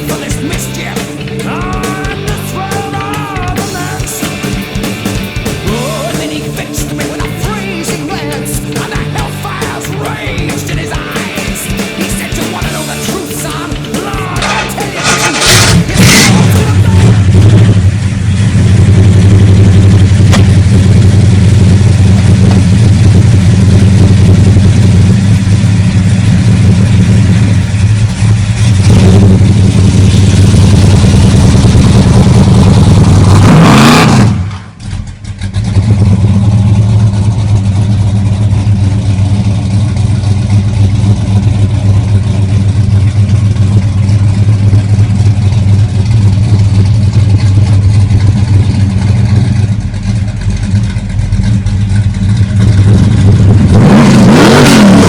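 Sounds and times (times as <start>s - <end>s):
engine idling and revving: 0.0s - 55.0s.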